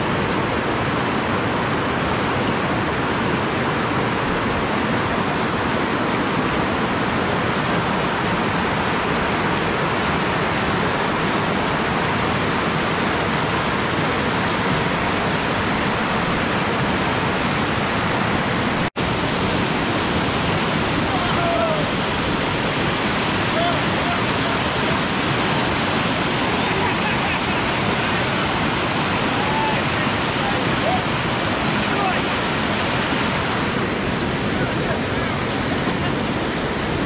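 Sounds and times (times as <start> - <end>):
river rapids roaring: 0.0 - 37.0.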